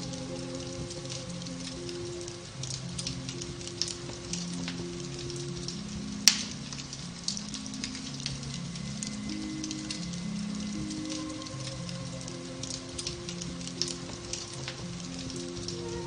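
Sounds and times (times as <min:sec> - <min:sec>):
fire crackling in fireplace: 0:00.0 - 0:16.0
soft slow piano music: 0:00.0 - 0:16.0.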